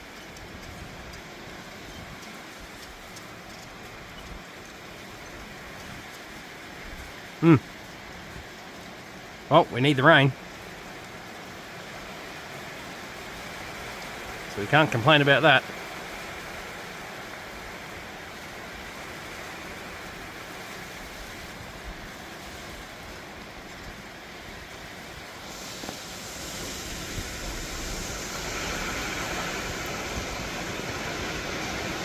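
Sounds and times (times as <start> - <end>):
heavy wind-driven rain: 0.0 - 32.0.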